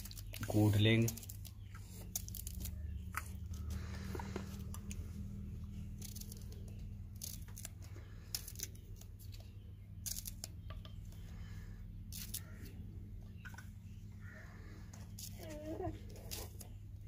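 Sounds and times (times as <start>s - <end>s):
low hum: 1.4s - 15.4s.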